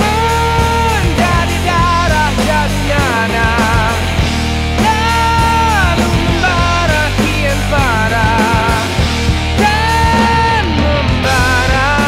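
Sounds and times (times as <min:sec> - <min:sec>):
rock song with singing: 0:00.0 - 0:12.0
steady bass: 0:00.0 - 0:12.0.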